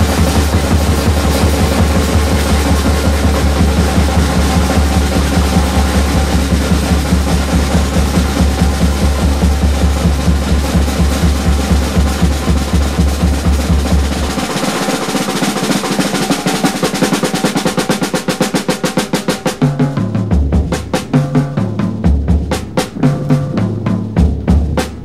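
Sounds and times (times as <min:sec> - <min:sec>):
drum build-up: 0:00.0 - 0:25.0
heavy bass and beat: 0:00.0 - 0:25.0.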